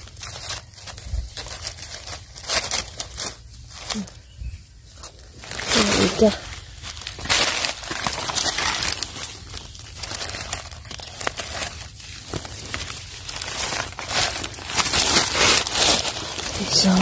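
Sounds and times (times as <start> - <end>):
dry leaves crackling and rustling: 0.0 - 17.0.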